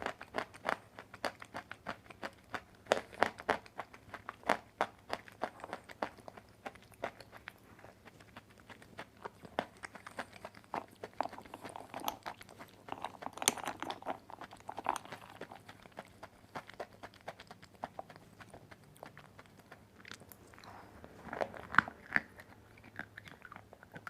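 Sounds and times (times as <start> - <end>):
chewing dry clay crunches: 0.0 - 24.0.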